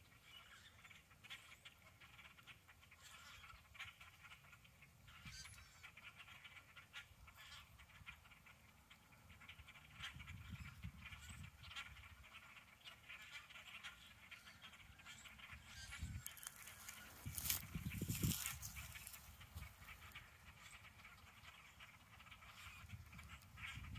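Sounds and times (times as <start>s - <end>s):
crows calling: 0.0s - 23.9s.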